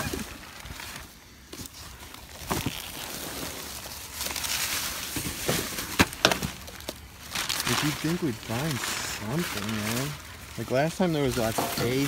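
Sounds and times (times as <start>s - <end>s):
loose trash shifting: 0.0s - 12.0s
plastic garbage bags rustling: 0.0s - 12.0s.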